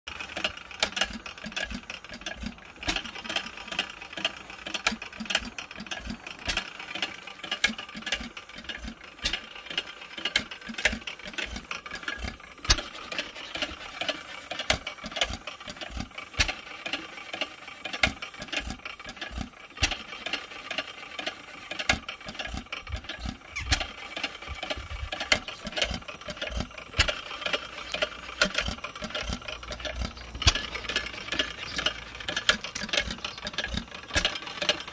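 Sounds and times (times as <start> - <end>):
stationary engine clattering: 0.1 - 34.9.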